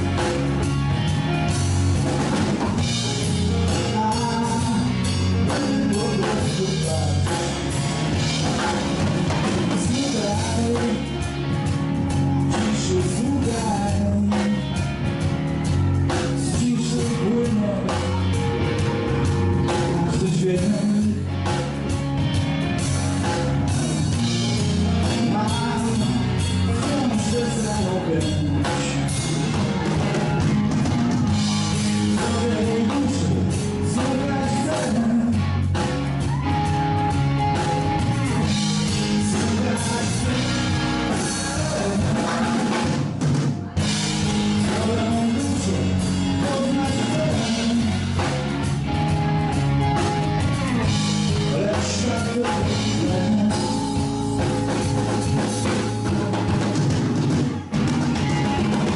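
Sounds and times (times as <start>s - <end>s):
blues-rock band playing live: 0.0s - 58.9s.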